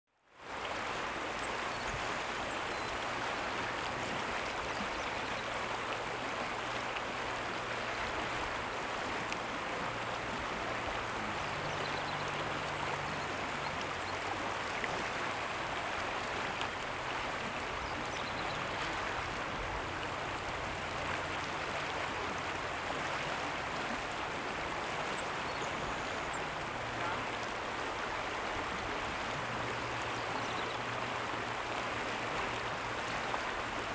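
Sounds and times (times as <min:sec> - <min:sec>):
shallow river flowing over riffles: 0:00.1 - 0:33.9.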